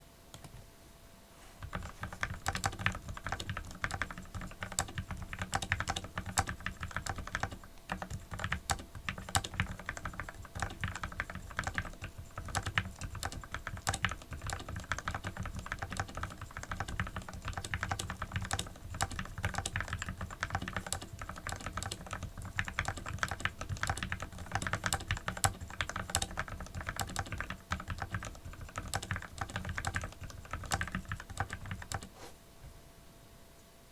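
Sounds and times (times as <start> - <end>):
mechanical keyboard typing: 1.6 - 32.1.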